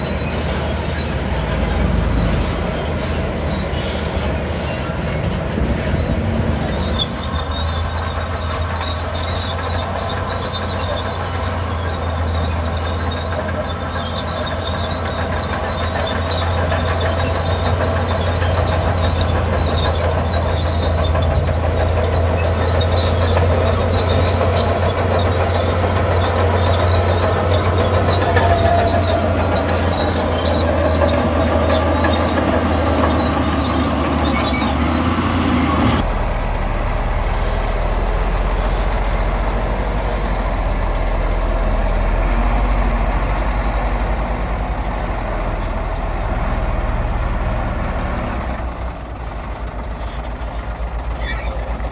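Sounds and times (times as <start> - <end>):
diesel engine drone: 0.0 - 51.9
steel tracks squealing and clanking: 0.0 - 51.9.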